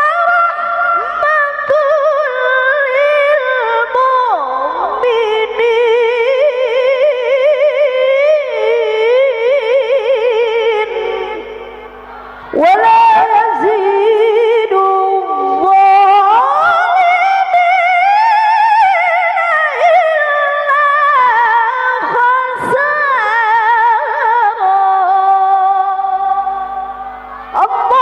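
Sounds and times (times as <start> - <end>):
woman chanting into a microphone: 0.0 - 28.0.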